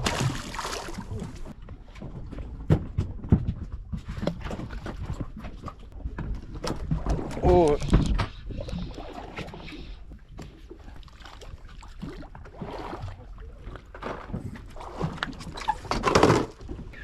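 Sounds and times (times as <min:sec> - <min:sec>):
water noise: 0:00.0 - 0:01.6, 0:04.1 - 0:17.0
wind: 0:00.0 - 0:17.0.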